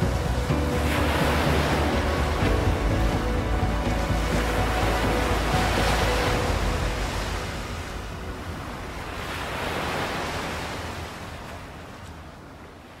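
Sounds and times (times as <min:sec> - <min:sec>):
ocean waves washing in: 0:00.0 - 0:13.0.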